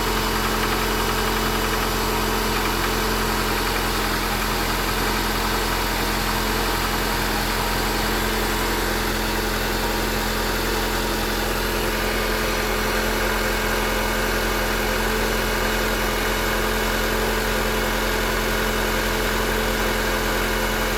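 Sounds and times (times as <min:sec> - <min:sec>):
car engine running steadily: 0:00.0 - 0:20.9
engine knocking: 0:00.0 - 0:20.9.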